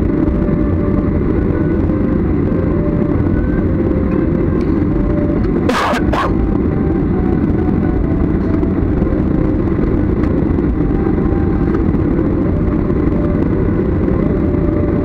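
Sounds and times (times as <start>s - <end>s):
faint steady tones: 0.0s - 15.0s
jet engines idling rumble: 0.0s - 15.0s.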